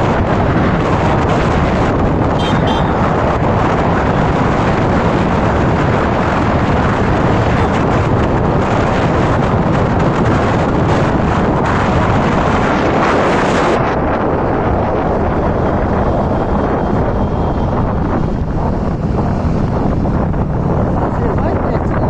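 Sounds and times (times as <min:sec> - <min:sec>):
vehicle road and engine noise: 0:00.0 - 0:22.0
wind buffeting microphone: 0:00.0 - 0:22.0.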